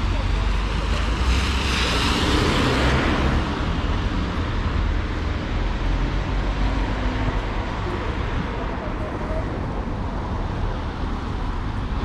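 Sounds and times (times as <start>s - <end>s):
steady road noise: 0.0s - 12.0s.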